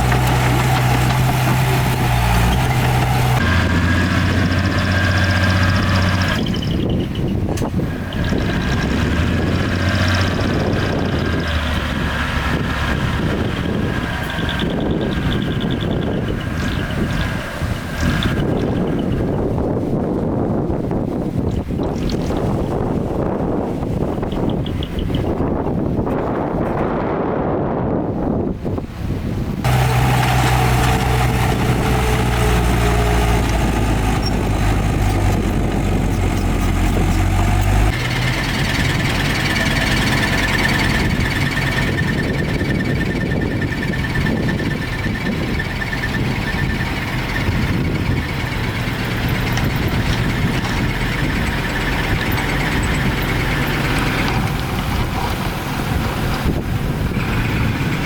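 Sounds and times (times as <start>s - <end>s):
heavy diesel machinery engine: 0.0s - 21.8s, 28.6s - 58.0s
engine with high whine: 0.0s - 27.2s, 29.5s - 58.0s.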